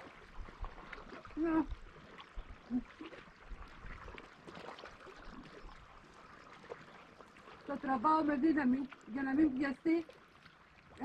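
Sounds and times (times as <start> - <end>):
faint water: 0.0 - 11.0.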